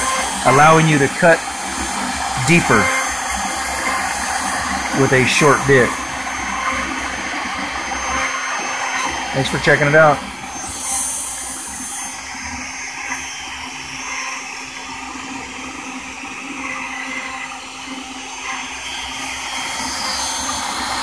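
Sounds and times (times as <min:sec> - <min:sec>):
router spindle carving wood: 0:00.0 - 0:21.0.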